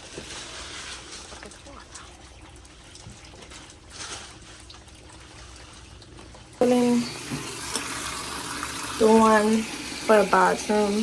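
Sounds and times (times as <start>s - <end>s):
water pouring into a bucket: 0.0s - 11.0s.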